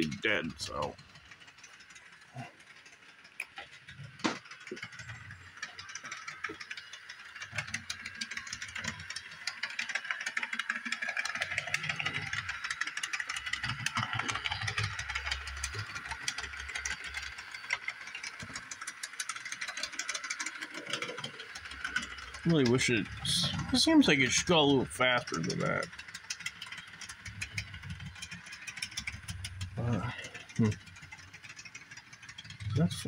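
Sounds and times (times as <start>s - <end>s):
model railcar motor whirring: 0.0s - 33.0s
rapid clicking and clunking: 0.0s - 33.0s.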